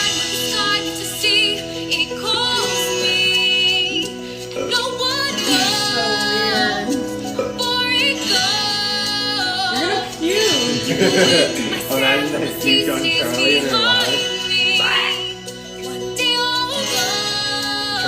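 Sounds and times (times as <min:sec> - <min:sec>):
instrumental backing: 0:00.0 - 0:18.0
woman singing: 0:00.0 - 0:18.0.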